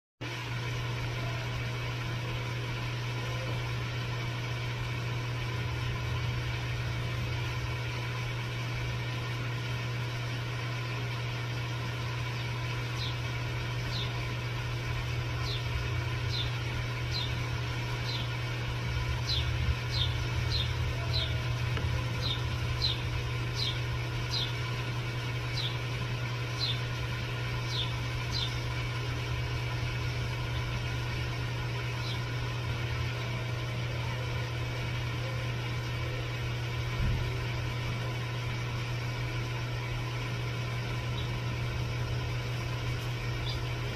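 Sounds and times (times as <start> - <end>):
low machine hum: 0.2 - 43.9.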